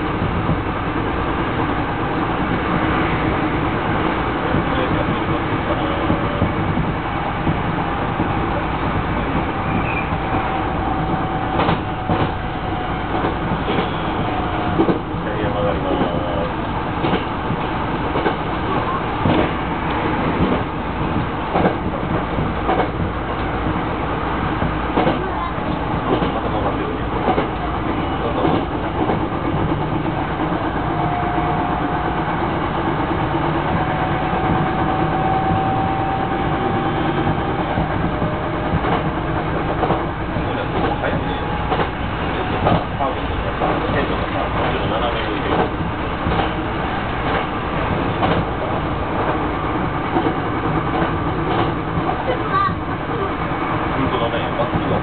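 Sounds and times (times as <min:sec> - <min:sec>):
electric train rolling: 0:00.0 - 0:55.0
wheels clacking over rails: 0:04.4 - 0:23.8, 0:24.5 - 0:55.0.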